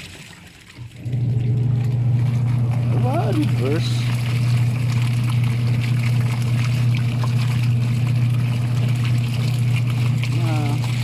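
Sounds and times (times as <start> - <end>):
water churning in tub: 0.0 - 11.0
washing machine motor humming: 0.8 - 11.0.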